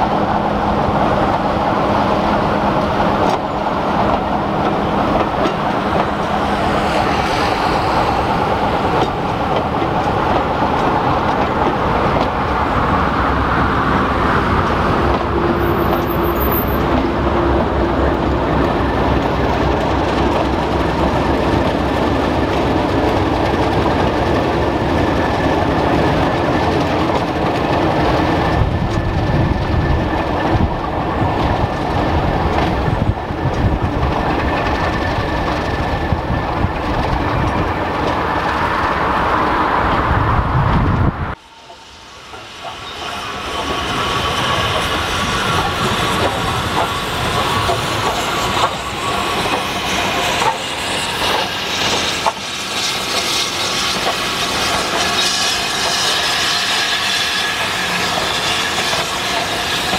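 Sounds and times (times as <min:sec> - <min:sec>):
diesel locomotive engines: 0:00.0 - 0:59.9
train wheels rumbling on rails: 0:00.0 - 0:59.9.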